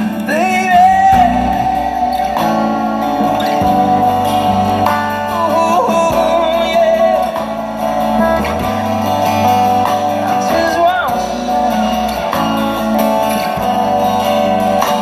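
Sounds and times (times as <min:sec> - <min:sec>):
bass line: 0:00.0 - 0:15.0
live band with guitars: 0:00.0 - 0:15.0
person singing: 0:00.0 - 0:15.0.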